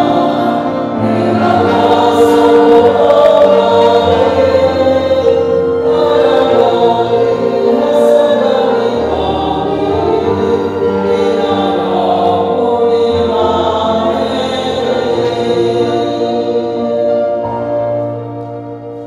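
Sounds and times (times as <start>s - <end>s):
choir singing slow hymn: 0.0s - 19.0s.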